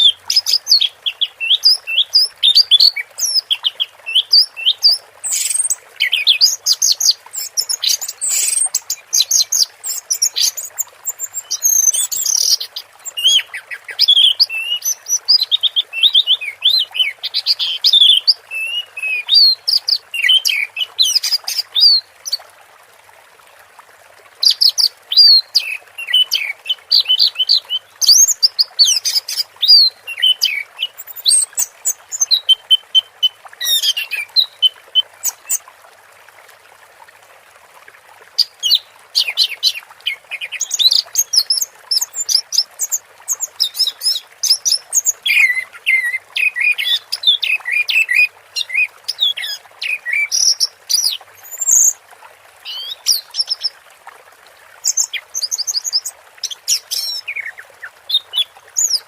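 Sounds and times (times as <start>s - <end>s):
faint steady hiss: 0.0s - 59.0s.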